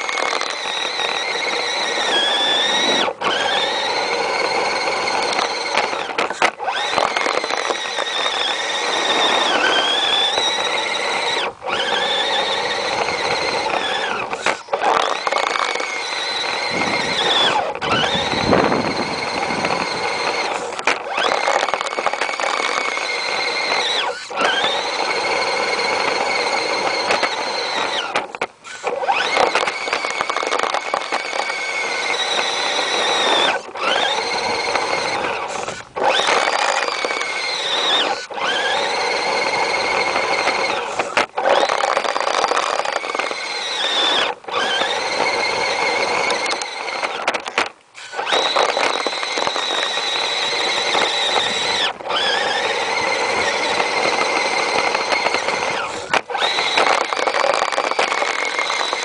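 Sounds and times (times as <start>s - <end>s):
toy truck electric motor whining: 0.0s - 59.0s.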